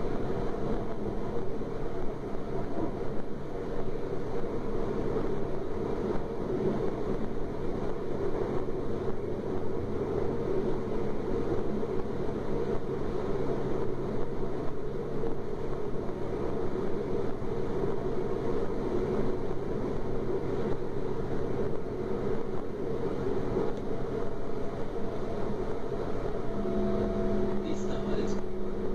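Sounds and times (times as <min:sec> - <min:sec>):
train drive hum: 0:00.0 - 0:28.9.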